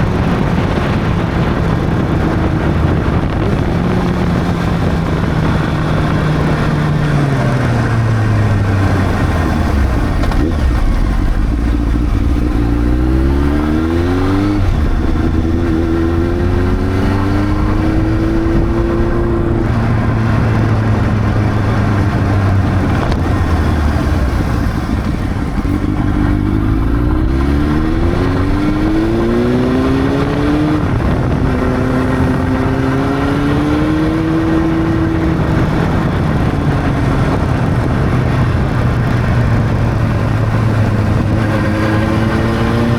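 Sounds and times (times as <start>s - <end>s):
gear changes: 0.0s - 42.9s
motorcycle engine revving: 0.0s - 42.9s
wind rush: 0.0s - 42.9s.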